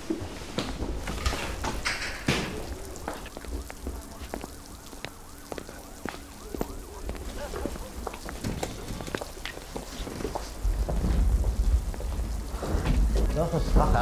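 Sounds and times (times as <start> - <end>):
rain falling on hard ground: 0.0 - 14.0
sharp drips: 0.6 - 14.0.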